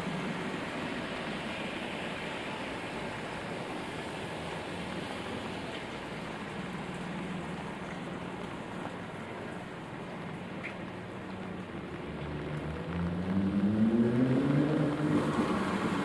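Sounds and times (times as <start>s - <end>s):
rain on a street: 0.0s - 16.0s
traffic hum: 0.0s - 16.0s.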